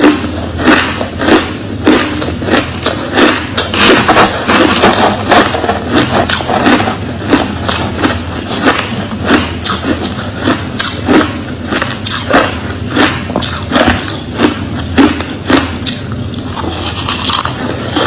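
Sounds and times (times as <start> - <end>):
person chewing crushed ice: 0.0 - 18.0
steady low hum: 0.0 - 18.0.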